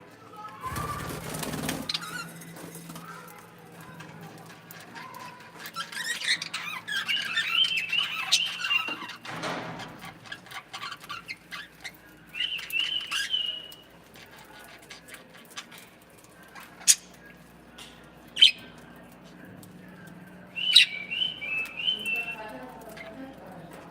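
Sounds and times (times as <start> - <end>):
cockatiels and budgies chattering: 0.5 - 23.9.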